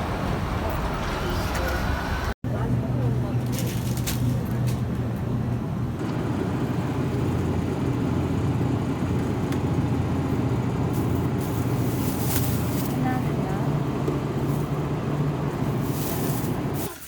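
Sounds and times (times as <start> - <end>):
exhaust fan humming: 0.0 - 17.0.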